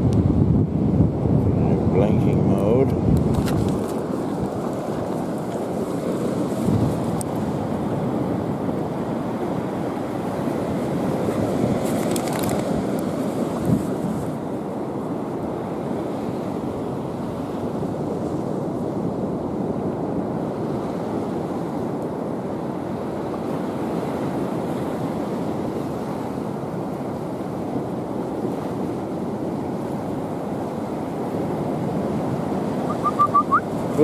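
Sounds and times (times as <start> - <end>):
ocean surf rushing: 0.0 - 34.0
wind noise on microphone: 0.0 - 34.0.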